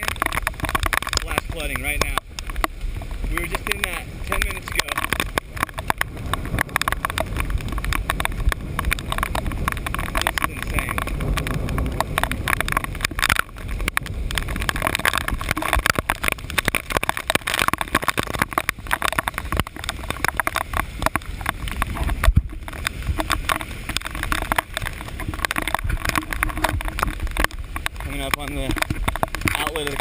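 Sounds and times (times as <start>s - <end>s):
low rumble: 0.0s - 30.0s
camera case knocking and rubbing: 3.4s - 30.0s.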